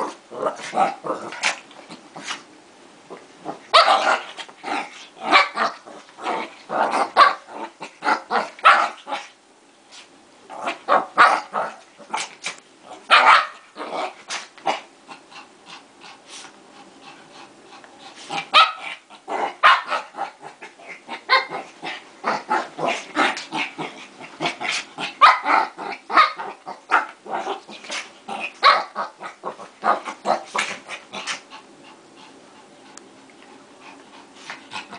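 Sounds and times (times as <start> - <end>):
dogs growling: 0.0 - 2.4, 3.1 - 9.3, 10.5 - 32.9, 33.8 - 34.9.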